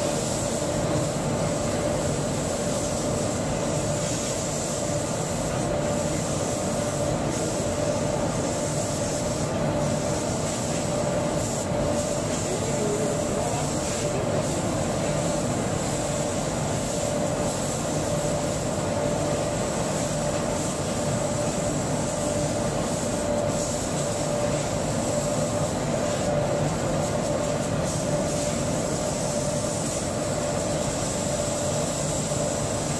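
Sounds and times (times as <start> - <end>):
laser cutting machine whirring: 0.0 - 32.9.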